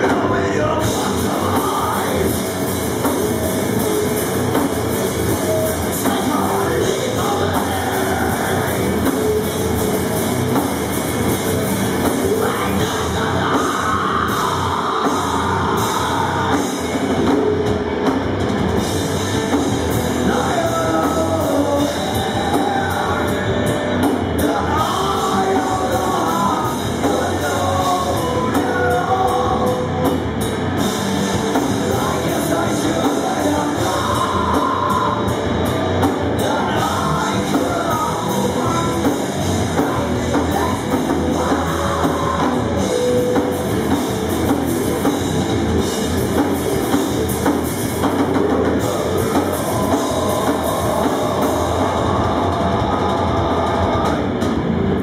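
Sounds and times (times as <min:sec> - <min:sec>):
singer's voice: 0:00.0 - 0:10.5, 0:11.9 - 0:17.8, 0:19.8 - 0:45.0, 0:48.1 - 0:55.0
bass guitar: 0:00.0 - 0:55.0
distorted electric guitars: 0:00.0 - 0:55.0
drum kit: 0:00.0 - 0:55.0.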